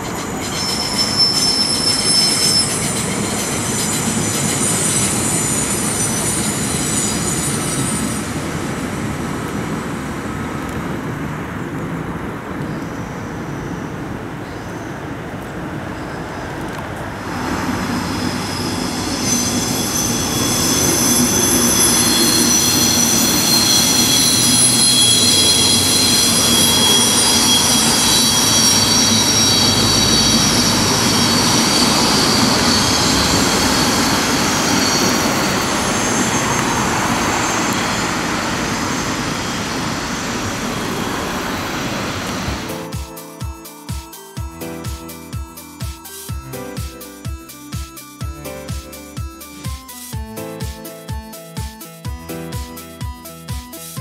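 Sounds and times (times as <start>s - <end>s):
high-pitched wheel squeal: 0.0s - 9.4s, 16.0s - 54.0s
train rumbling over viaduct: 0.0s - 54.0s.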